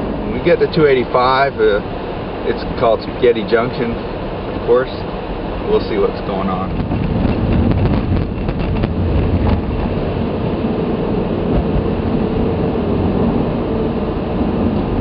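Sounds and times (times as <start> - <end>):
road and tyre noise in car: 0.0 - 15.0.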